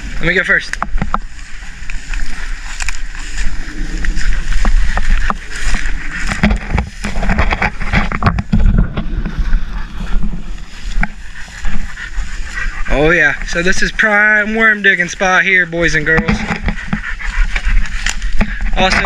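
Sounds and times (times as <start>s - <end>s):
footsteps through tall grass: 0.0s - 19.0s.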